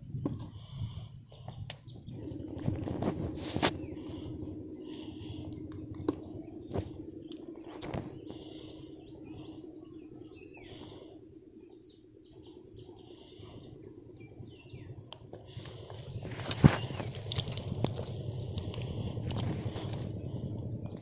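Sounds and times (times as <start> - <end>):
birds chirping: 0.0 - 21.0
low steady hum: 0.0 - 21.0.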